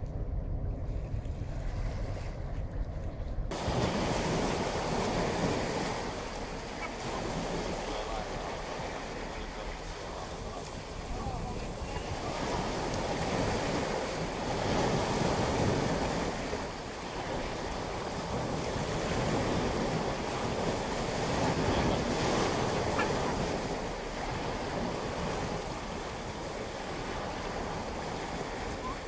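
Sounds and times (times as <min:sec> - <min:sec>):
water washing through shallows: 0:00.0 - 0:29.0
waves breaking on rocky shore: 0:03.5 - 0:29.0.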